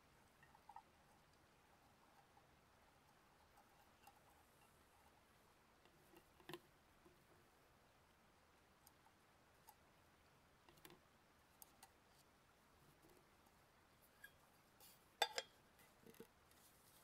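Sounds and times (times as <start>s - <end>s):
faint clicks and taps: 0.2s - 7.5s, 8.8s - 17.0s.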